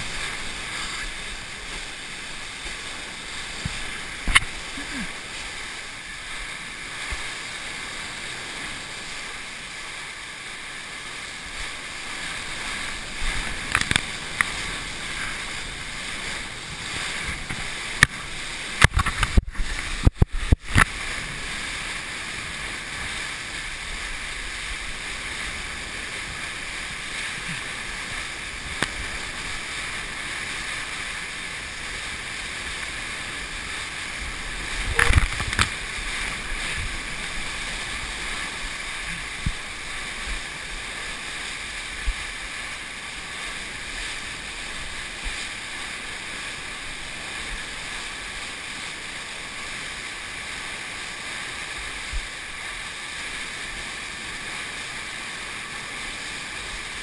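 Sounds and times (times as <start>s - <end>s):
whitewater rushing: 0.0s - 57.0s.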